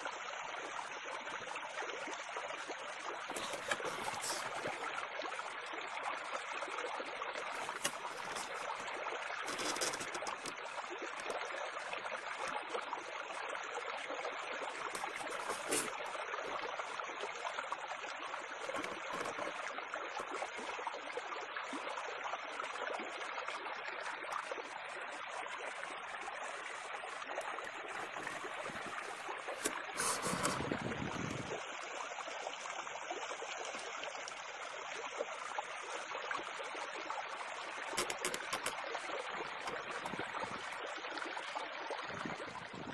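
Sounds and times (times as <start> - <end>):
water trickling and bubbling: 0.0 - 42.9.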